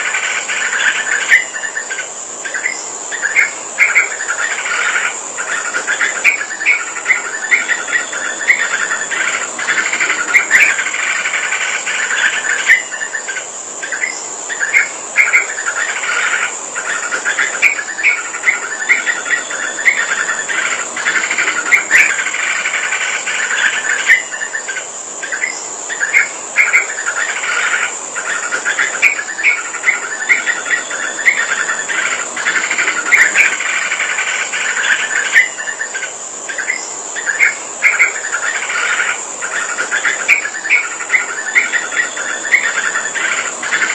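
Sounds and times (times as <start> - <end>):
bird chirping song: 0.0 - 43.9.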